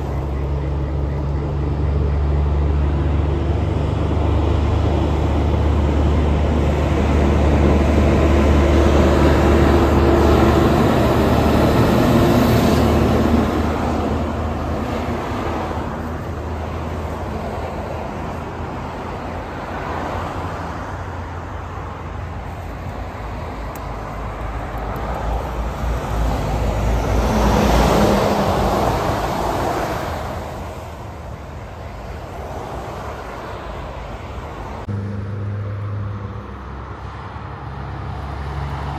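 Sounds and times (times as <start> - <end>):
vehicle passing: 0.0 - 21.5, 22.3 - 31.0, 31.8 - 38.9
truck engine drone: 0.0 - 38.9.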